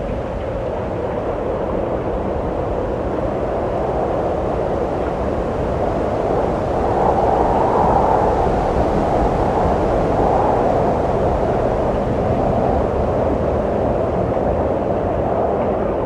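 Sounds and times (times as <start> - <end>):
wind blowing: 0.9 - 16.0.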